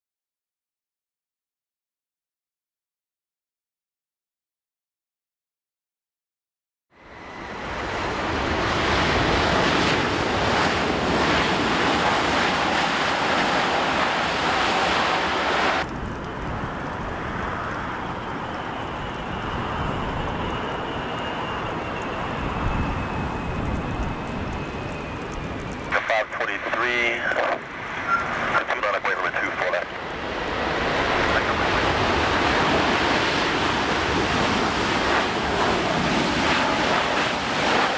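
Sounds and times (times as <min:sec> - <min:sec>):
jet engine whine falling in pitch: 0:06.9 - 0:37.9
jet engines roaring: 0:07.0 - 0:37.9.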